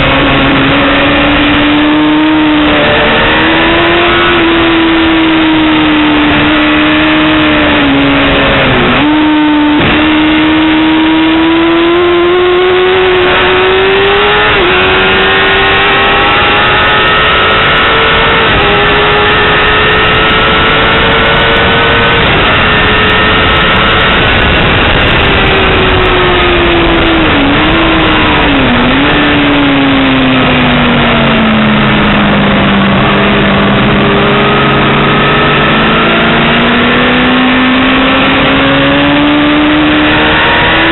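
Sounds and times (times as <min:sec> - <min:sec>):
motorcycle engine at high revs: 0:00.0 - 0:40.9
wind rush: 0:00.0 - 0:40.9.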